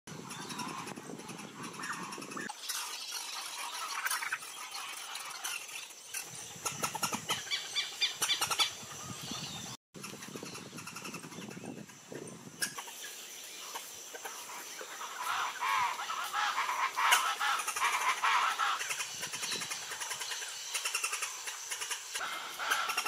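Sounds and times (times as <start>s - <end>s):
birds calling: 0.1s - 23.0s
warbling bird calls: 0.1s - 23.0s.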